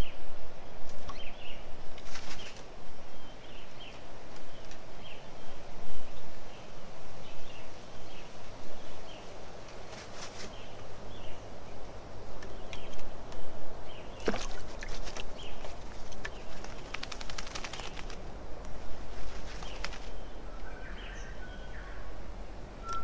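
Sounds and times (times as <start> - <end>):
background hiss: 0.0 - 23.0
birds chirping: 0.9 - 23.0.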